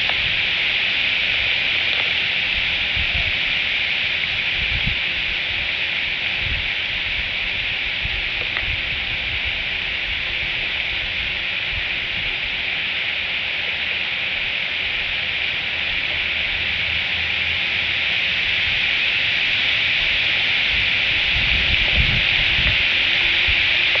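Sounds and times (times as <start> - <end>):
rain on leaves: 0.0 - 24.0.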